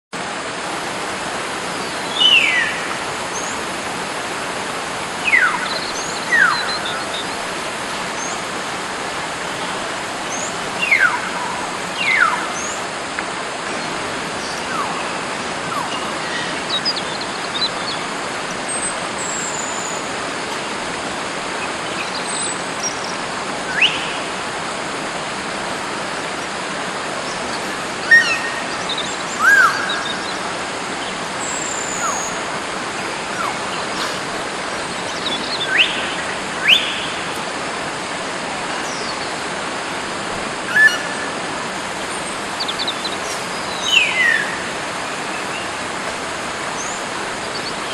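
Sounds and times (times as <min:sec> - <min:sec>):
steady background hiss: 0:00.2 - 0:47.9.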